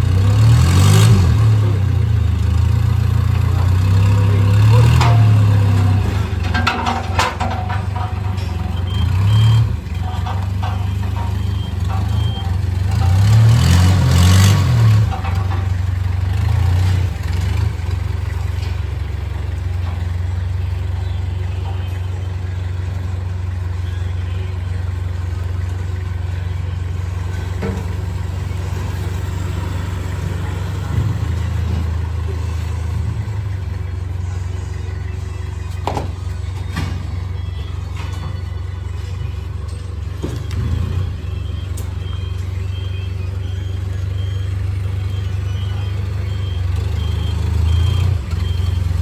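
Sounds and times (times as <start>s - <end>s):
vehicle engine idling and revving: 0.0s - 49.0s.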